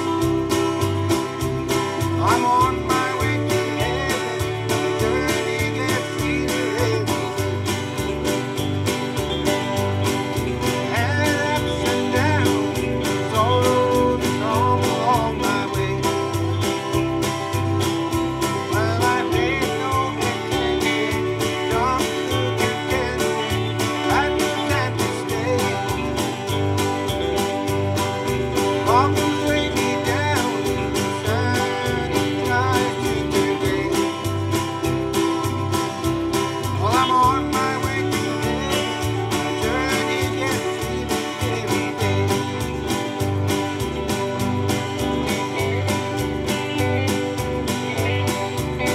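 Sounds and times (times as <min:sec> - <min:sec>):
acoustic guitar strumming: 0:00.0 - 0:48.9
bass and beat: 0:00.0 - 0:48.9
country gospel band playing: 0:00.0 - 0:48.9
sliding melody line: 0:00.0 - 0:48.9.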